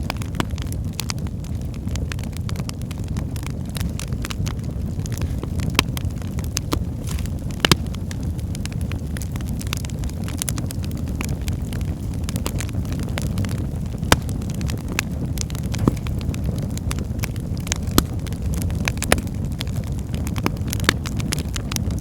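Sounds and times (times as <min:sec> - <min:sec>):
fire rumbling in fireplace: 0:00.0 - 0:22.0
wood crackling and popping: 0:00.0 - 0:22.0.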